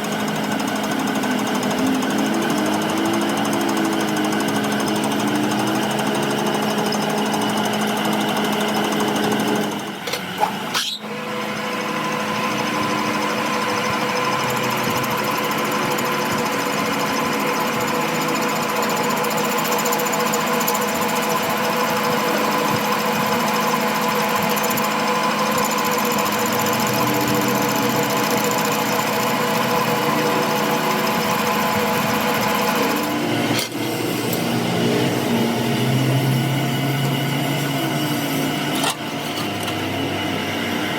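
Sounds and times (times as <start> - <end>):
machine tool motor running: 0.0 - 40.9.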